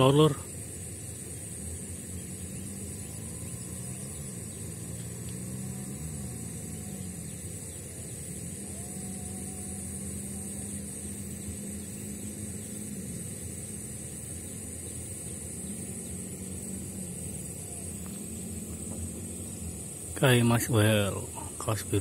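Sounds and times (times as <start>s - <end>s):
motor engine running: 0.0s - 22.0s
steady hiss: 0.0s - 22.0s.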